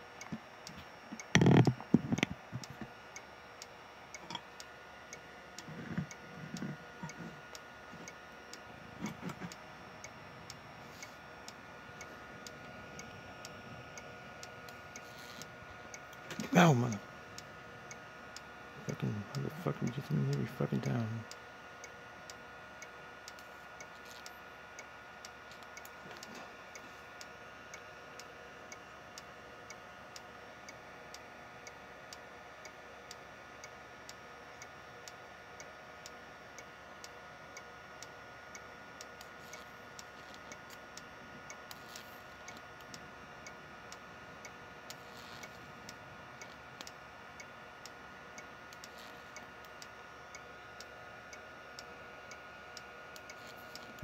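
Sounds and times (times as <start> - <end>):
faint regular ticking: 0.0 - 54.0.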